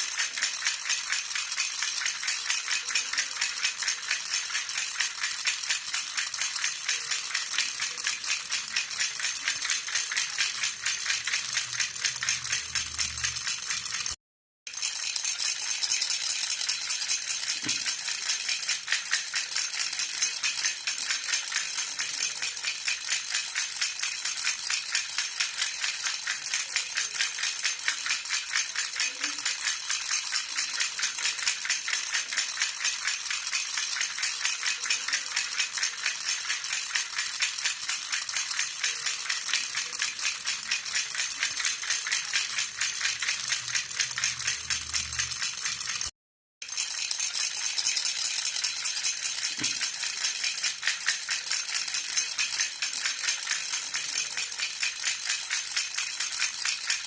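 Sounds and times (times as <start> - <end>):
baby rattle jingling: 0.0 - 57.0.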